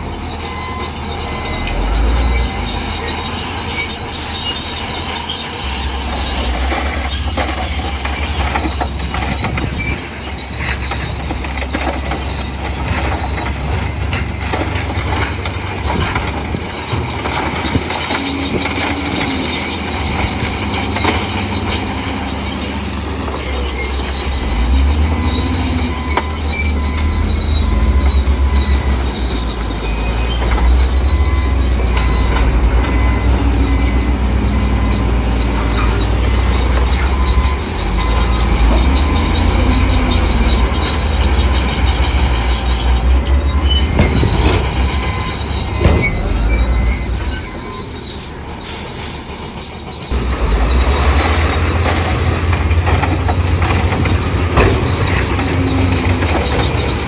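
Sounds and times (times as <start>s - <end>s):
diesel engine rumble: 0.0s - 57.0s
steel tracks squealing and clanking: 0.0s - 57.0s.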